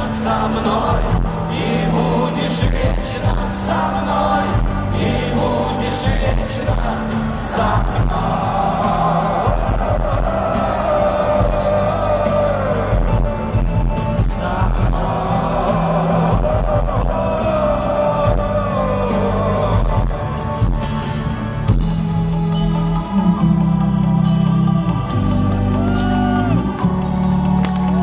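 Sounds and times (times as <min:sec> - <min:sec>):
gliding lead melody: 0:00.0 - 0:28.0
rock band playing: 0:00.0 - 0:28.0
steady bass: 0:00.0 - 0:28.0.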